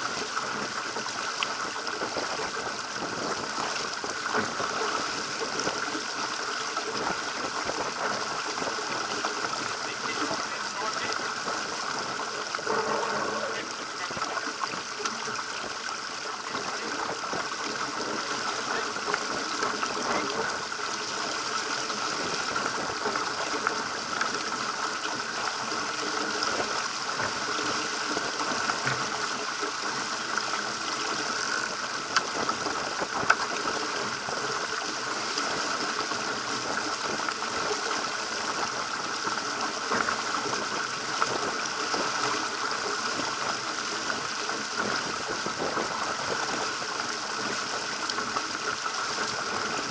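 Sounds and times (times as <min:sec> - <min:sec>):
water rushing along boat hull: 0:00.0 - 0:49.9.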